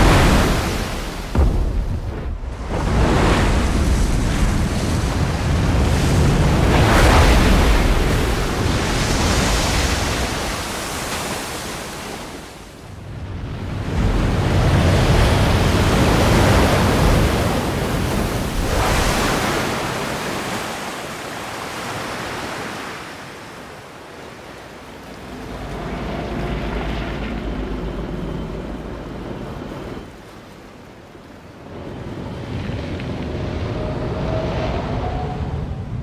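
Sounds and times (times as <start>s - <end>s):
wave crashing ashore: 0.0s - 36.0s.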